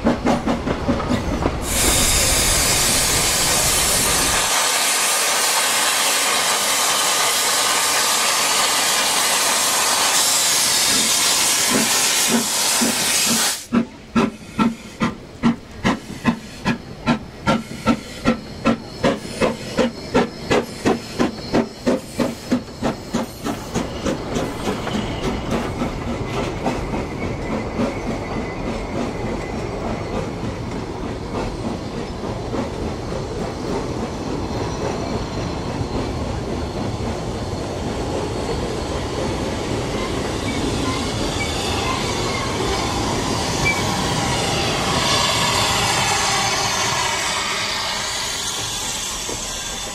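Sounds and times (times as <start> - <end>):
steam locomotive chuffing: 0.0 - 49.9
steam hissing: 1.5 - 28.2, 35.0 - 49.9.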